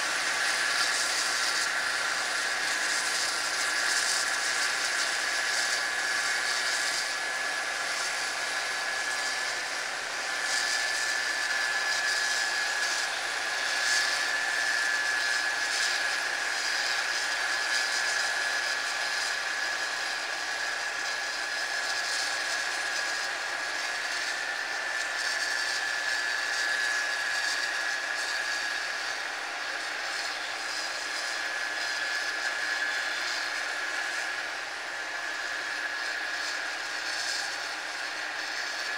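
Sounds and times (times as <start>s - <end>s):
harvest machinery whining: 0.0s - 38.9s.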